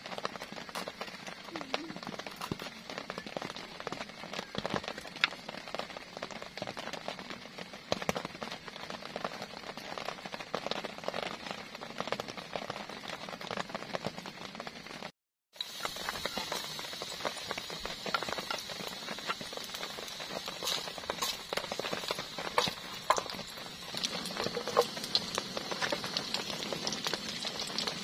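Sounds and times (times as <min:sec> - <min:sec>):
steady rainfall: 0:00.0 - 0:28.0.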